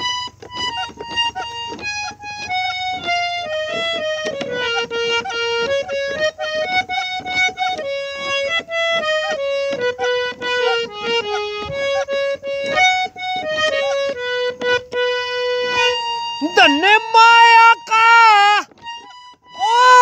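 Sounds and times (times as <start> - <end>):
harmonium playing folk melody: 0.0 - 20.0.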